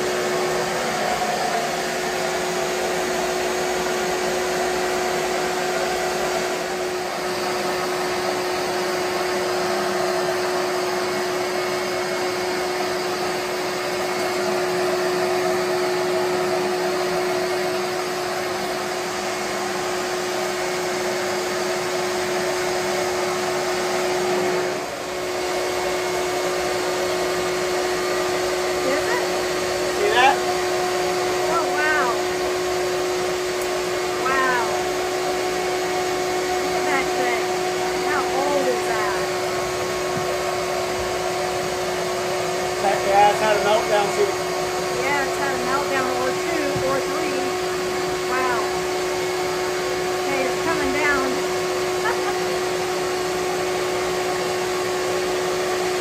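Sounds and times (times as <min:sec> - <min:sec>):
vacuum motor whining: 0:00.0 - 0:56.0.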